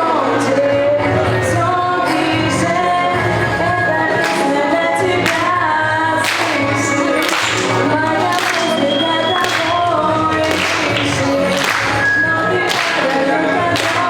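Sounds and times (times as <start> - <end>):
musical accompaniment: 0.0 - 14.0
woman singing: 0.0 - 14.0.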